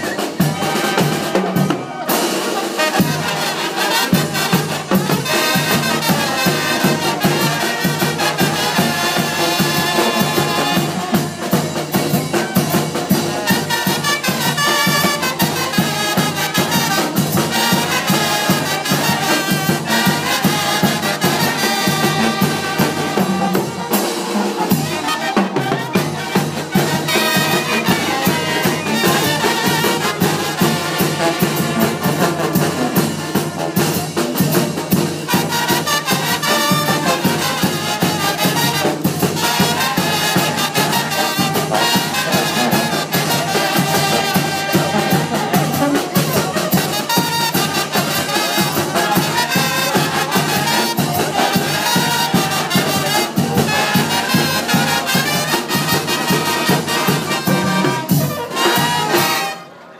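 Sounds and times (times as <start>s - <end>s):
brass band playing dance music: 0.0s - 59.9s.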